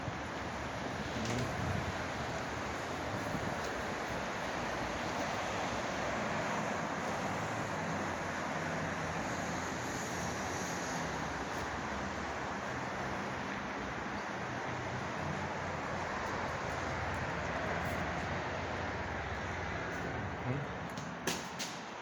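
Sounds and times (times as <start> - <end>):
distant city traffic rumble: 0.0 - 22.0
steady wind: 0.0 - 22.0.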